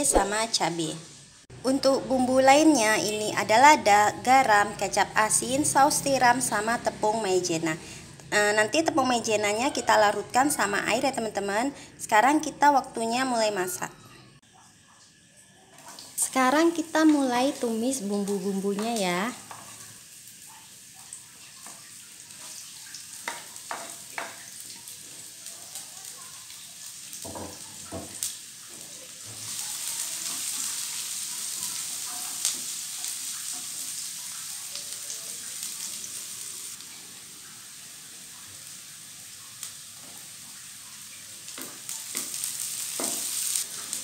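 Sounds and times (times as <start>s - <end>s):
shallots sizzling in hot oil: 0.0s - 13.7s, 15.6s - 44.0s.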